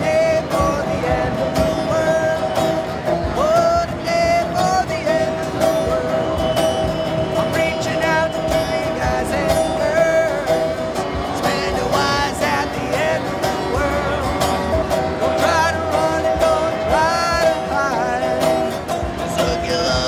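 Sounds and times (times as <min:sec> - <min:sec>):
man singing: 0:00.0 - 0:20.0
resonator guitar strumming: 0:00.0 - 0:20.0.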